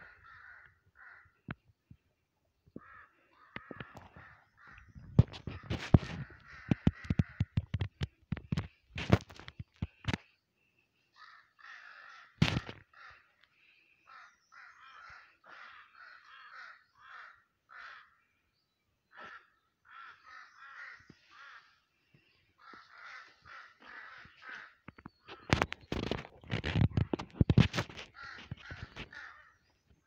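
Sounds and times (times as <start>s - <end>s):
crows cawing: 0.0s - 1.6s, 2.7s - 8.7s, 11.1s - 18.3s, 19.1s - 29.8s.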